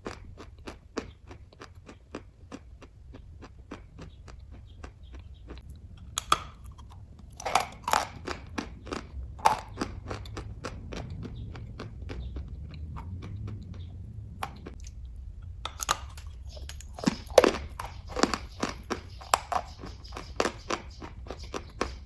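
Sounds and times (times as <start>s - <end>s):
person chewing and biting: 0.0s - 22.0s.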